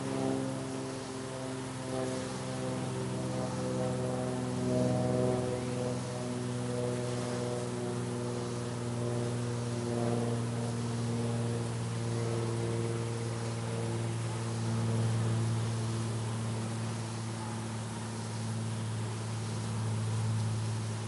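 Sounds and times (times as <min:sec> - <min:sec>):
honey bees humming: 0:00.0 - 0:21.0.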